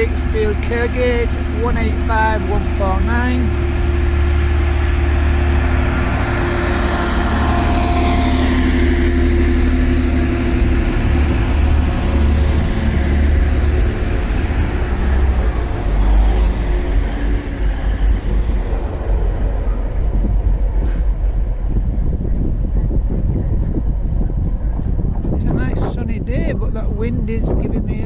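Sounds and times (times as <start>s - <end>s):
train engine drone: 0.0s - 28.0s
wind rumbling on microphone: 0.0s - 28.0s.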